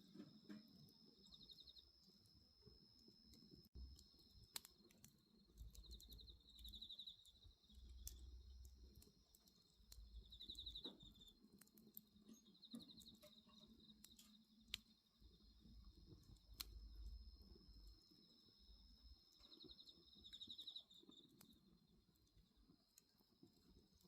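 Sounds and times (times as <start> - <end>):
bonfire crackling: 0.0 - 24.0
crickets chirping: 0.0 - 24.0.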